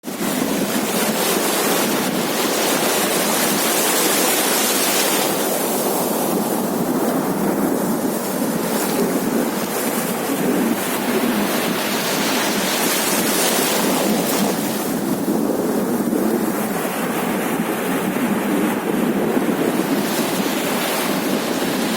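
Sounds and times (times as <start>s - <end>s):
sea waves breaking on a beach: 0.0s - 21.9s.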